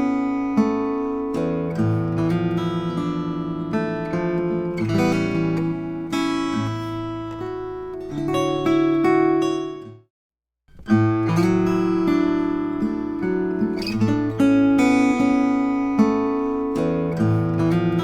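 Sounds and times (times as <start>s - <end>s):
acoustic guitar strumming chords: 0.0s - 10.0s, 10.7s - 18.0s.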